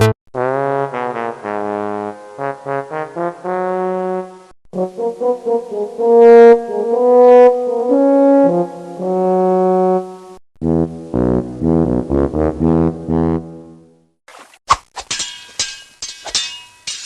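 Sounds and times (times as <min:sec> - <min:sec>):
brass tune: 0:00.0 - 0:14.2.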